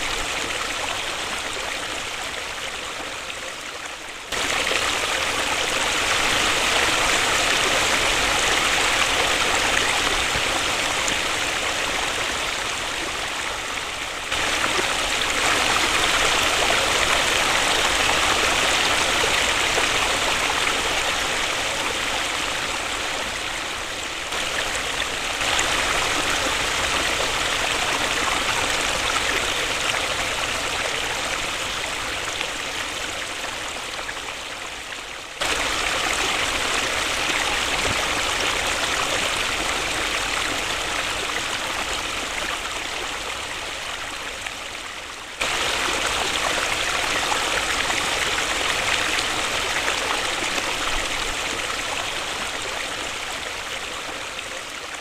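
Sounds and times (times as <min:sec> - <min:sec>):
waterfall rushing: 0:04.0 - 0:34.6, 0:35.4 - 0:55.0.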